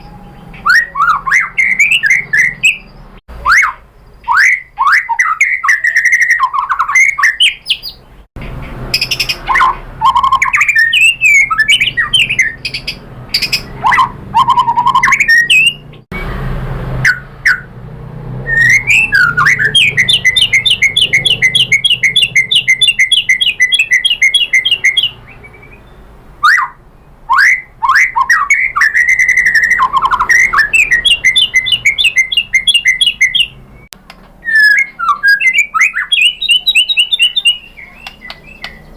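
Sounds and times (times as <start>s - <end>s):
bird singing whistled phrases: 0.0s - 8.0s, 9.0s - 16.0s, 17.0s - 17.7s, 18.5s - 38.9s
rapid repeated bird notes: 0.0s - 16.3s, 18.6s - 38.9s.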